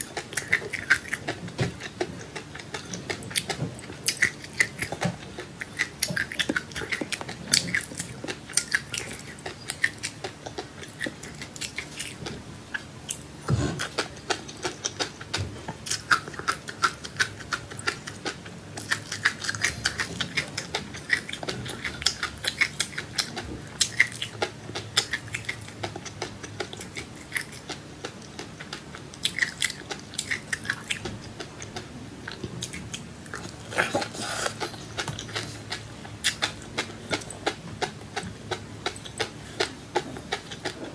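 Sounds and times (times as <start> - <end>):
chewing and crunching seeds: 0.0 - 40.9.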